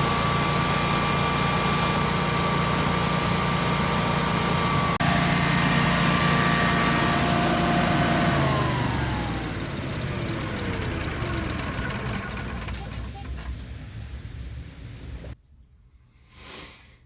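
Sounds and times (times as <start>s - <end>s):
generator engine running and winding down: 0.0s - 15.4s.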